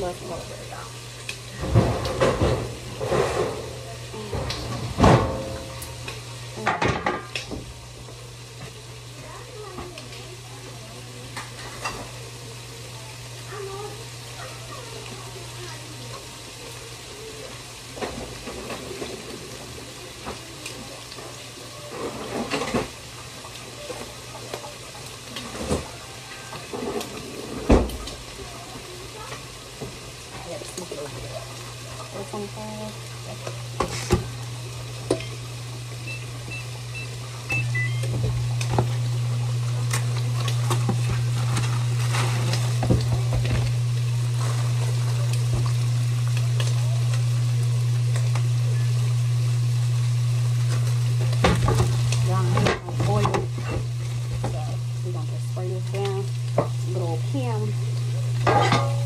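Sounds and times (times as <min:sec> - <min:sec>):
shrimp frying in a pan: 0:00.0 - 0:59.0.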